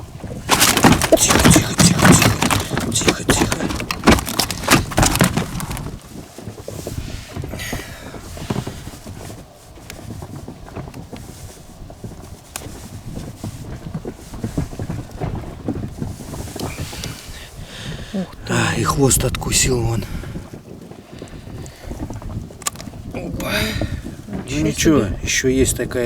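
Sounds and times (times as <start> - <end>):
fish thrashing in a boat: 0.0 - 26.0
wind noise: 0.0 - 26.0.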